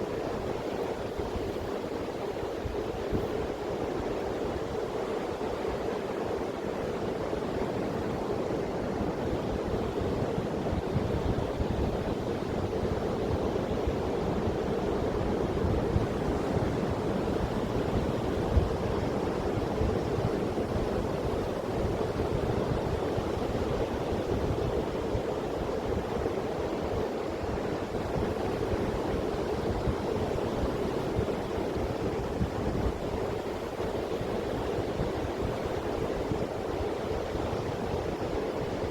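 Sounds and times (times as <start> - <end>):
sea surf washing on shore: 0.0 - 38.9.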